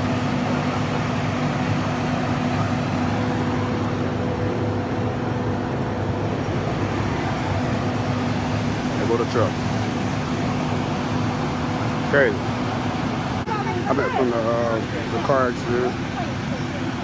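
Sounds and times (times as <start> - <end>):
mechanical hum: 0.0 - 17.0
rushing noise: 0.0 - 17.0.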